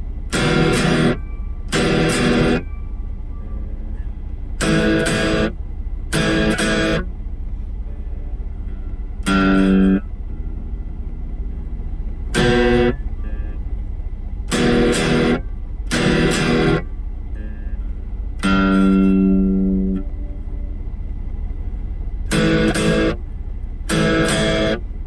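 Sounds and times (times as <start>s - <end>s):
electric guitar chords: 0.0s - 2.8s, 4.5s - 25.0s
steady low hum: 0.0s - 25.0s.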